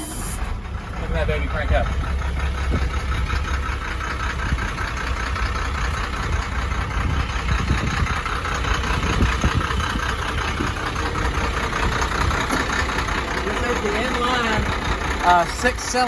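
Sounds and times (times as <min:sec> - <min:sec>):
diesel truck idling: 0:00.0 - 0:16.0.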